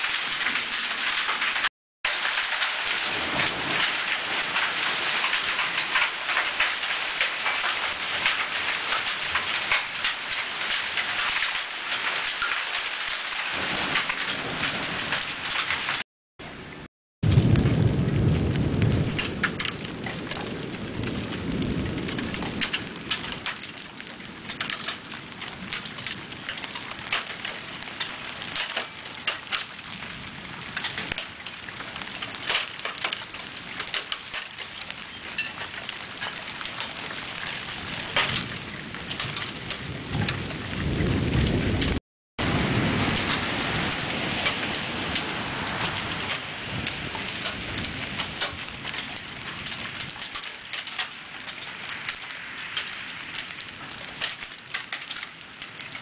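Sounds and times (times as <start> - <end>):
thunder rumble: 0.0 - 55.8
heavy rain on roof: 0.0 - 56.0.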